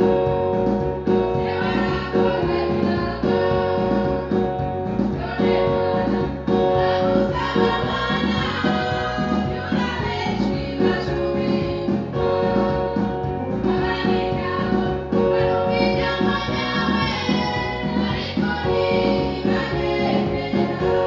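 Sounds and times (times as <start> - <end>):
amplified instrumental backing: 0.0 - 21.0
group singing into microphones: 0.0 - 21.0.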